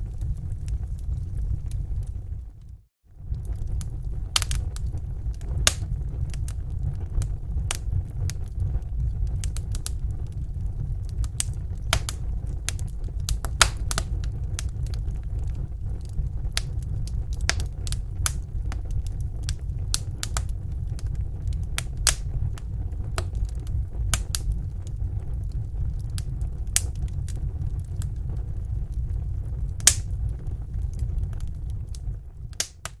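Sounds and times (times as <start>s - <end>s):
low rumble of flames: 0.0s - 33.0s
wood fire pops and crackles: 0.0s - 33.0s.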